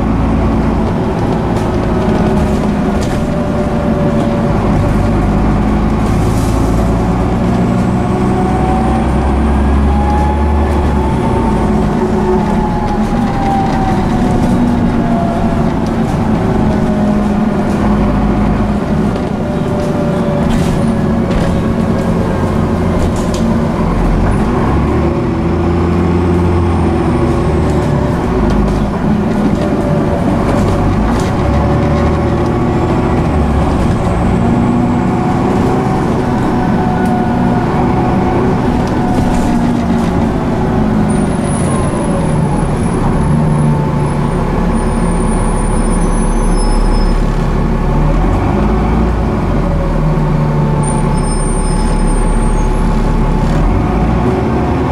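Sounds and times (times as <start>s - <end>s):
bus diesel engine: 0.0s - 54.9s.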